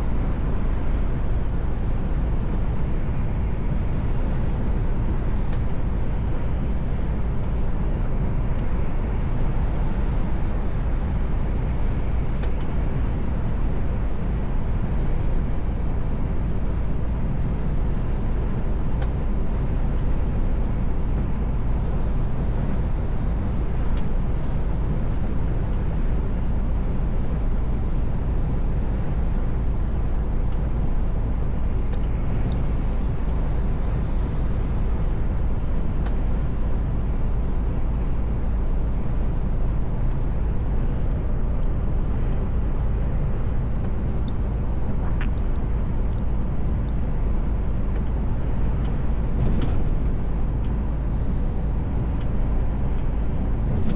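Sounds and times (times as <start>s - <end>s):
truck engine and road noise: 0.0s - 53.9s.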